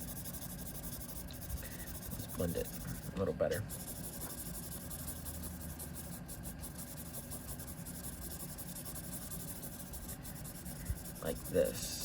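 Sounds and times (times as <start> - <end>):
blending stump rubbing on paper: 0.0 - 12.0.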